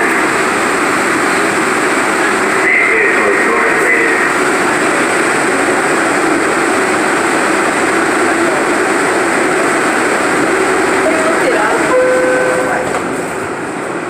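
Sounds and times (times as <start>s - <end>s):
subway wheels rumbling on rails: 0.0s - 14.0s.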